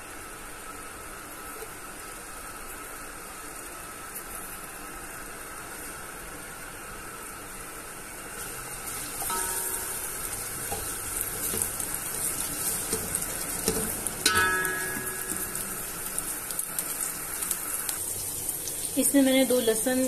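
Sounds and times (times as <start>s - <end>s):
carrots sizzling in oil: 0.4s - 20.0s.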